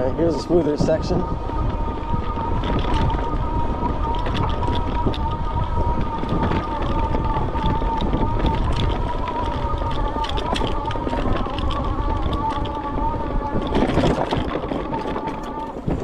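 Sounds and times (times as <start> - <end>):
electric motor whining: 0.0 - 16.0
wind noise on microphone: 0.0 - 16.0.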